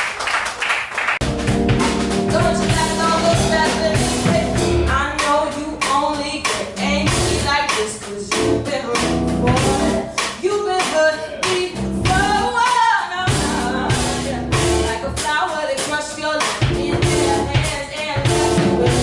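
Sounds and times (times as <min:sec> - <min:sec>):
drum beat: 0:01.2 - 0:19.0
person singing: 0:02.2 - 0:19.0.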